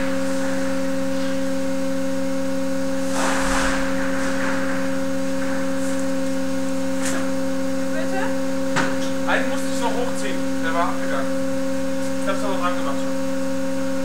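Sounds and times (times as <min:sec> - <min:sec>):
test rig machine hum: 0:00.0 - 0:14.0.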